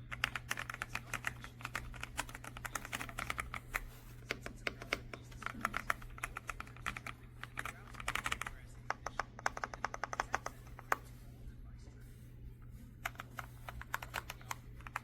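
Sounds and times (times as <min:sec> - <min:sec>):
mechanical keyboard typing: 0:00.0 - 0:11.0, 0:13.0 - 0:15.0.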